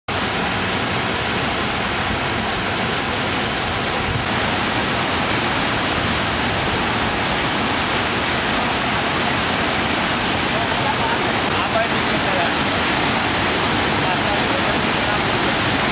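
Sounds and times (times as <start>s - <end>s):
floodwater rushing: 0.1s - 15.9s.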